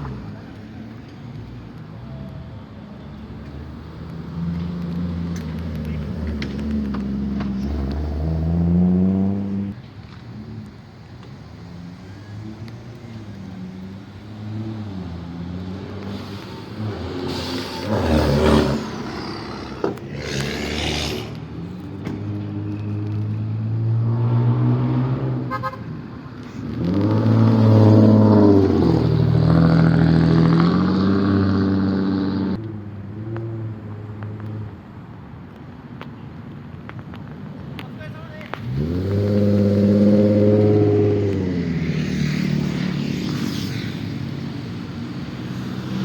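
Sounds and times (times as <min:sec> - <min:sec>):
car engines revving passing by: 0:00.0 - 0:46.0.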